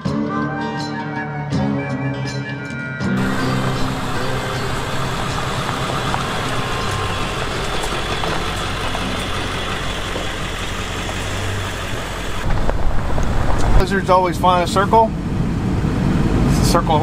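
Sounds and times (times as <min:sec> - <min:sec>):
road noise: 0:03.2 - 0:17.0
vehicle engine hum: 0:03.2 - 0:17.0.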